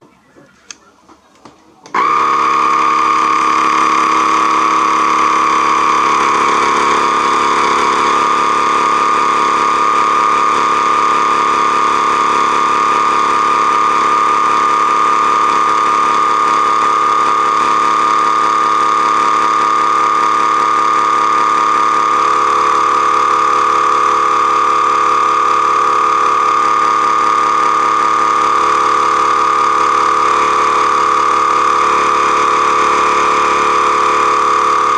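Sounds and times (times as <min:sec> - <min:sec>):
vacuum sealer pump whining: 0:01.8 - 0:34.9.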